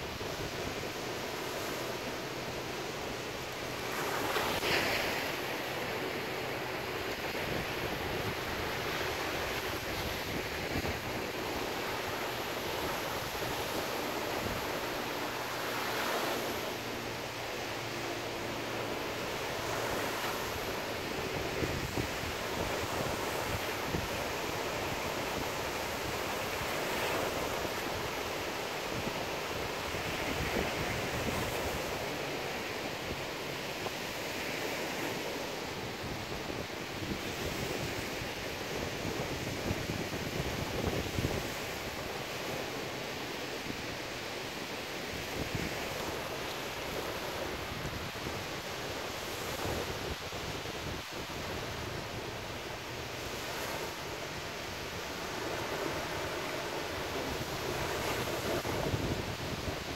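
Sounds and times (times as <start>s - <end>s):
wind buffeting microphone: 0.0s - 15.3s, 19.0s - 34.0s, 35.2s - 59.9s
surf breaking on beach: 0.0s - 59.9s.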